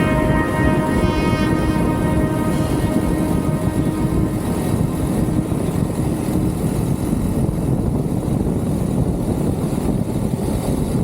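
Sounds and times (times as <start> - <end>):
motorcycle engine rumbling: 0.0 - 10.2.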